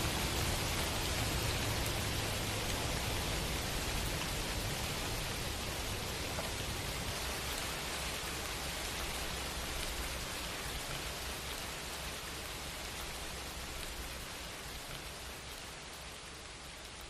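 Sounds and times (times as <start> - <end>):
steady rain patter: 0.0 - 17.0.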